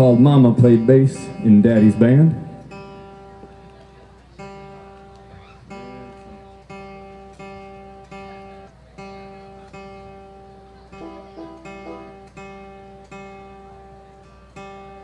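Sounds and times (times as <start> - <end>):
acoustic guitar strumming: 0.0 - 15.0
guitar single notes picked: 0.0 - 15.0.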